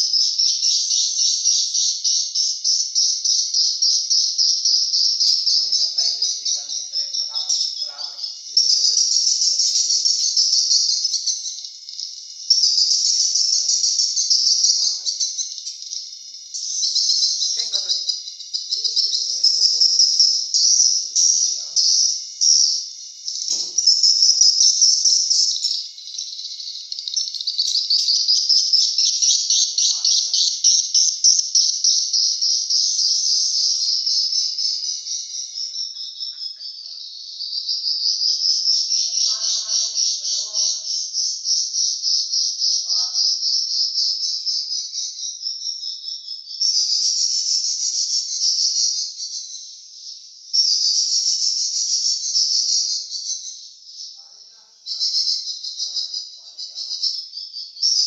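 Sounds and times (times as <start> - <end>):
swiftlets twittering: 0.0 - 58.0.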